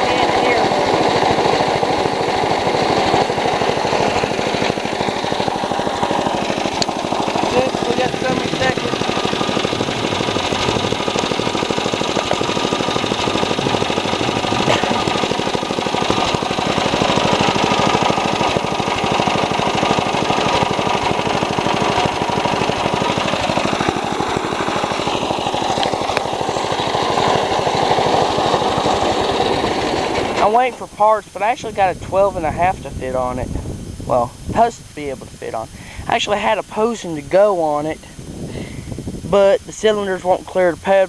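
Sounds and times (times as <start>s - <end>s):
lawnmower engine running: 0.0s - 41.0s.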